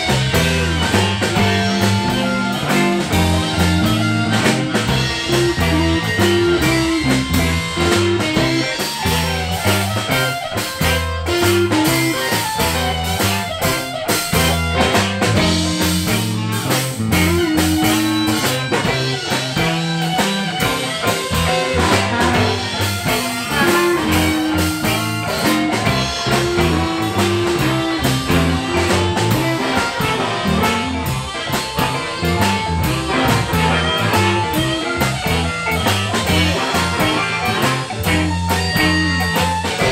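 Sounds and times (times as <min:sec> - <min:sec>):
blues harmonica: 0:00.0 - 0:39.9
drum kit: 0:00.0 - 0:39.9
electric bass line: 0:00.0 - 0:39.9
electric guitars: 0:00.0 - 0:39.9.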